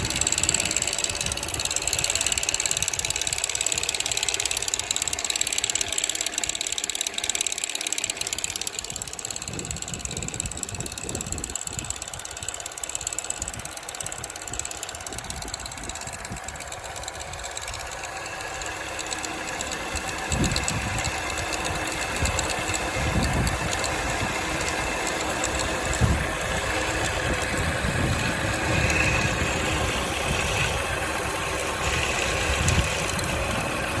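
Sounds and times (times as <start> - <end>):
car engine idling with knocking rattle: 0.0 - 34.0.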